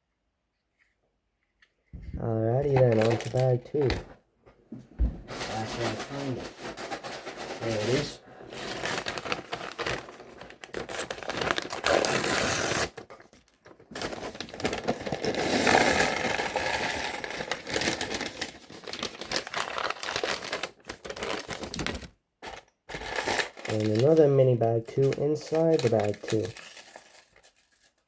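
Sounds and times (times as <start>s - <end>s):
plastic bag crinkling: 2.6s - 4.0s, 5.3s - 13.0s, 13.6s - 28.0s.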